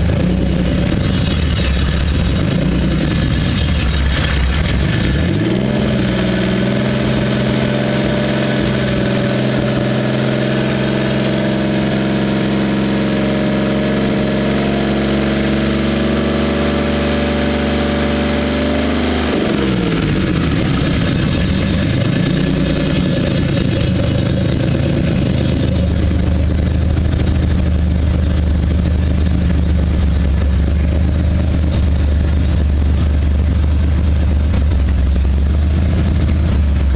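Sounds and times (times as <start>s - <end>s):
race car engine revving and idling: 0.0s - 36.9s.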